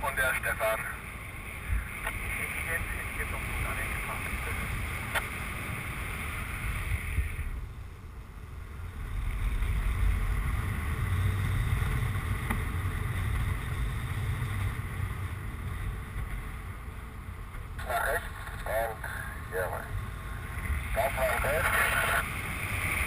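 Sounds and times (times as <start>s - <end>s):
wind buffeting microphone: 1.1s - 23.0s.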